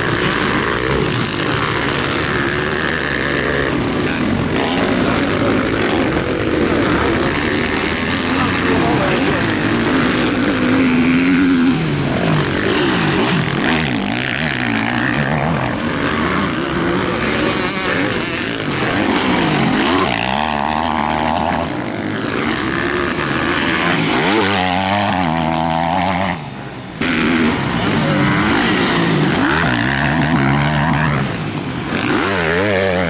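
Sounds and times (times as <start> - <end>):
motocross engines revving: 0.0 - 33.0.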